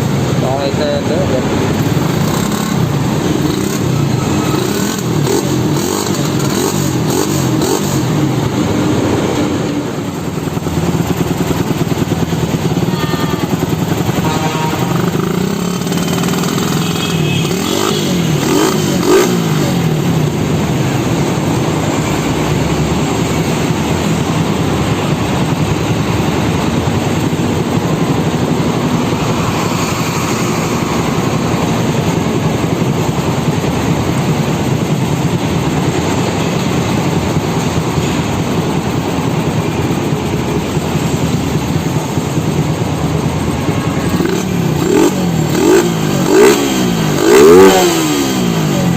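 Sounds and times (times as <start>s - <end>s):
motorcycle engine revving and running: 0.0s - 48.9s.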